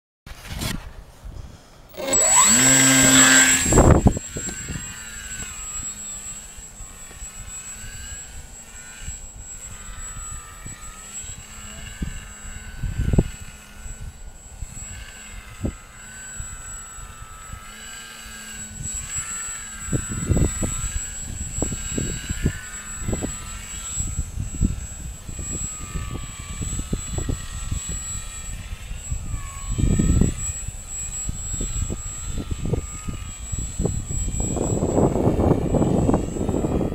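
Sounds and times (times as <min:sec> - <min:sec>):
wind buffeting microphone: 0:00.5 - 0:17.8, 0:18.4 - 0:36.9
model plane motor whining: 0:01.9 - 0:36.9.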